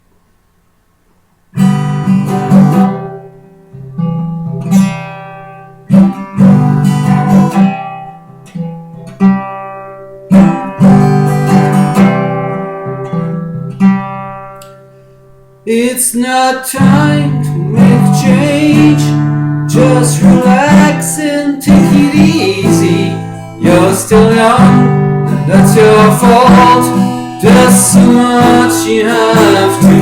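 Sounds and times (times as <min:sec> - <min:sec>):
acoustic guitar strummed chords: 0:01.1 - 0:30.0.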